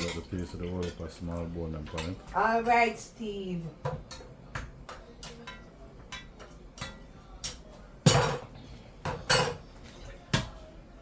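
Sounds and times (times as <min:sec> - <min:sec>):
utensils clinking against dishes: 0:00.0 - 0:03.1, 0:03.8 - 0:10.7.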